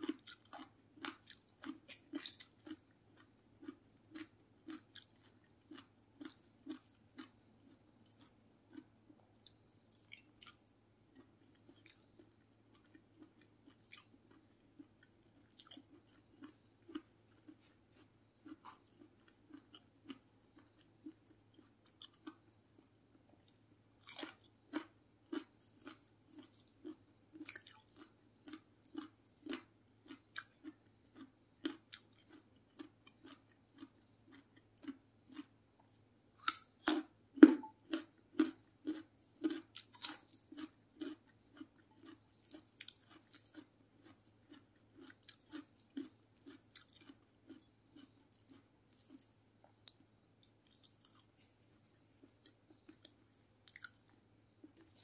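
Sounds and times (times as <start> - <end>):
close chewing: 0.0 - 22.4, 23.4 - 35.5, 36.4 - 55.0.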